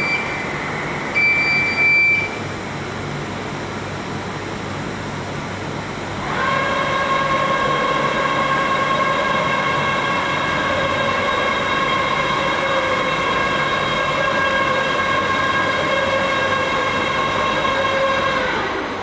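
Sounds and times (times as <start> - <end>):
machine whine: 0.0 - 19.0
noisy machine hum: 0.0 - 19.0.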